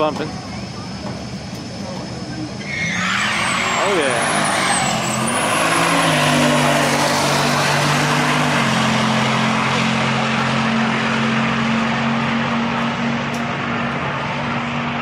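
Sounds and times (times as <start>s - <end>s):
truck engines at full throttle: 0.0s - 15.0s.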